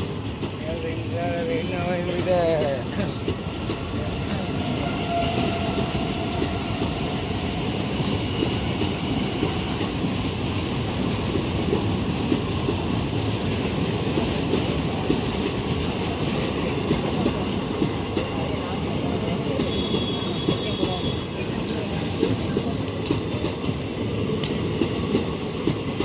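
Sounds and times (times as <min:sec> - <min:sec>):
train coaches rumbling past: 0:00.0 - 0:26.0.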